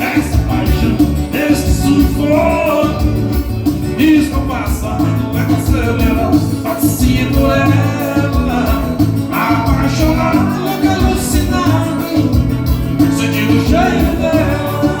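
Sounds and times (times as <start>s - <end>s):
lead singer: 0.0s - 15.0s
live latin dance band: 0.0s - 15.0s
pulsing bass beat: 0.0s - 15.0s.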